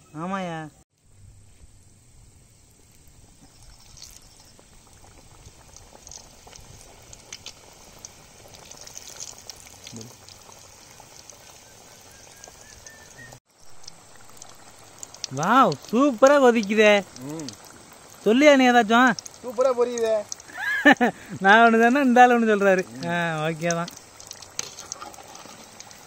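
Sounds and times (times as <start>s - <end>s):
deep-frying oil sizzling and popping: 1.7s - 26.0s.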